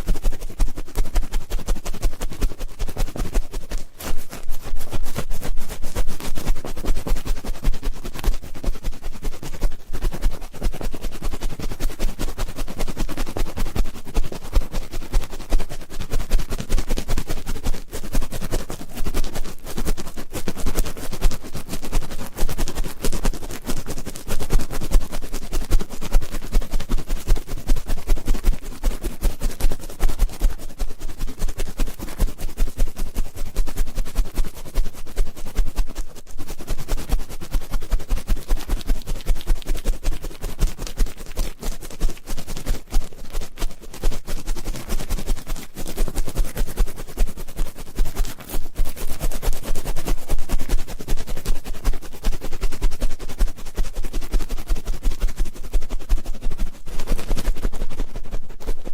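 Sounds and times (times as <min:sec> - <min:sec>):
ear pick scratching microphone: 0:00.0 - 0:58.9.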